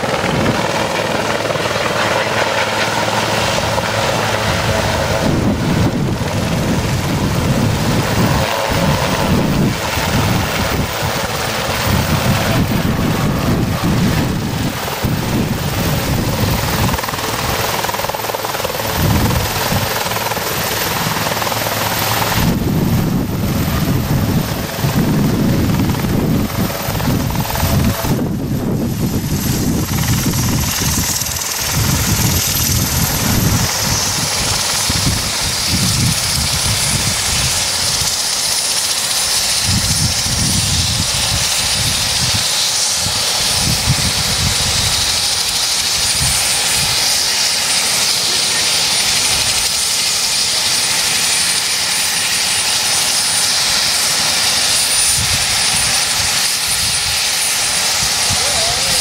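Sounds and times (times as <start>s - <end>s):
helicopter rotor beat: 0.0s - 59.0s
turbine noise: 0.0s - 59.0s.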